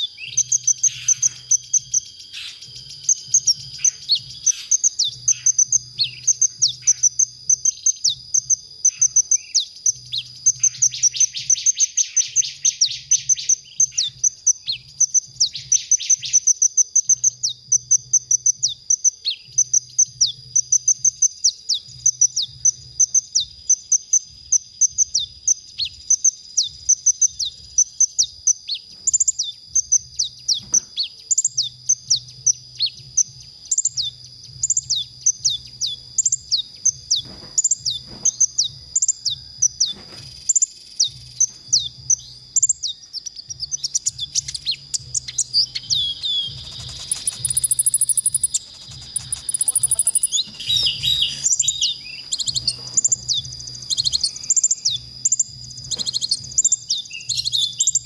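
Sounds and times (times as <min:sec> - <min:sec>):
bird buzzy trills: 0:00.0 - 0:58.0
bird high sharp chirps: 0:00.0 - 0:58.0.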